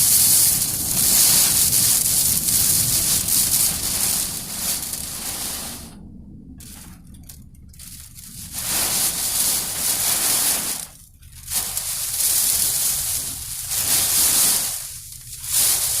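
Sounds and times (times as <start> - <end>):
gusting wind and rain on car: 0.0 - 16.0.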